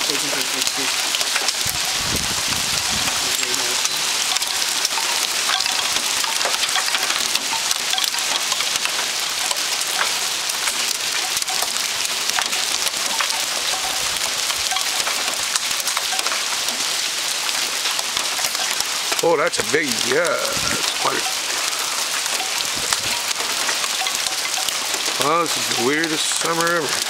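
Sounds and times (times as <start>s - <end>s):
hail striking hard surfaces: 0.0s - 27.0s.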